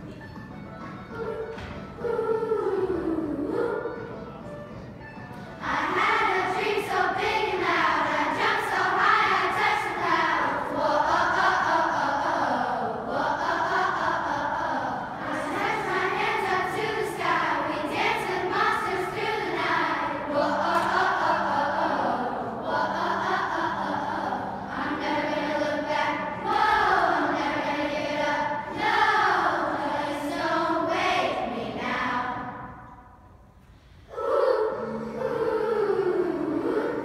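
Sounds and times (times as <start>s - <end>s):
children's choir singing: 1.1s - 37.0s.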